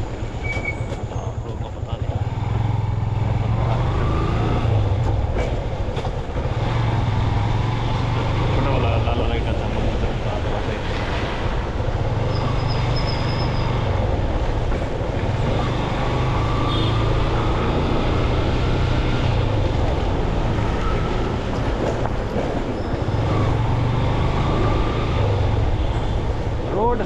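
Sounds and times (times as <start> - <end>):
surrounding traffic: 0.0 - 27.0.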